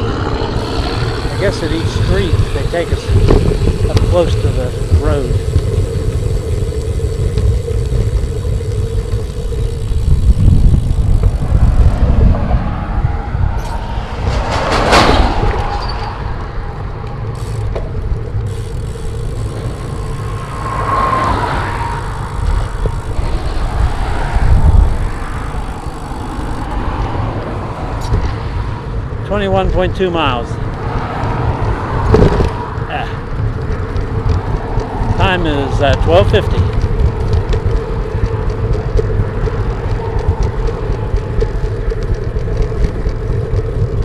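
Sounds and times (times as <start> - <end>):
traffic passing: 0.0 - 44.0
wind buffeting microphone: 0.0 - 44.0.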